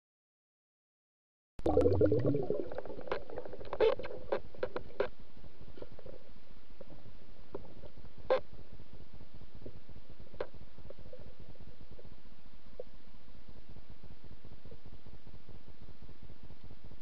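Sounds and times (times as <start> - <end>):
muffled underwater river rumble: 1.6 - 17.0.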